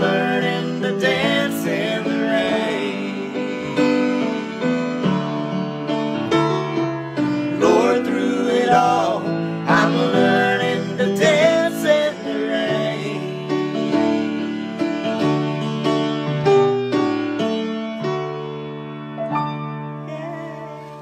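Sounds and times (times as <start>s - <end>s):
grand piano playing gospel: 0.0s - 21.0s.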